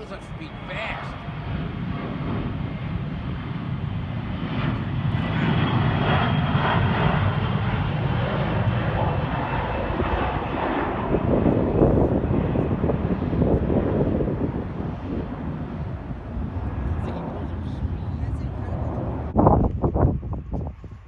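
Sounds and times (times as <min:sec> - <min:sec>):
airliner engines rumbling: 0:00.0 - 0:19.4
faint high engine whine: 0:00.0 - 0:19.4.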